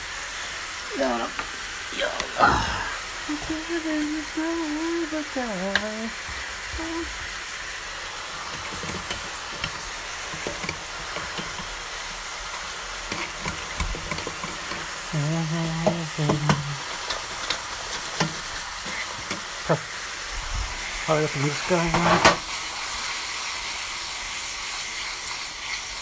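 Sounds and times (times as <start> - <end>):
fries sizzling in oil: 0.0 - 26.0.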